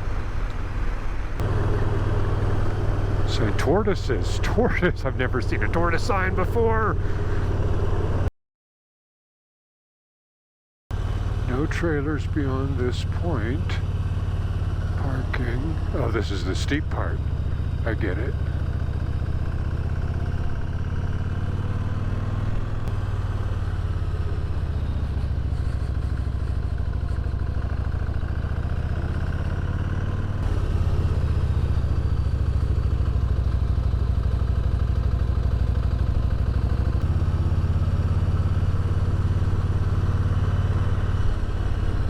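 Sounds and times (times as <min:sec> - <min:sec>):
motorcycle engine climbing: 0:00.0 - 0:08.3, 0:11.0 - 0:42.0.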